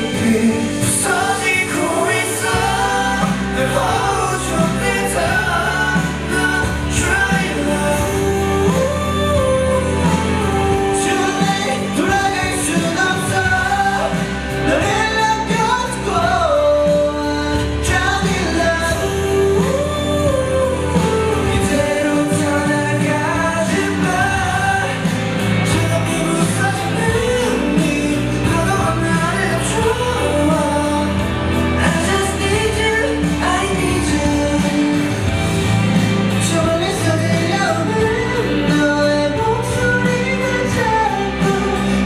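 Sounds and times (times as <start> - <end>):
band with electric bass: 0.0 - 42.0
man singing pop song: 0.0 - 42.0.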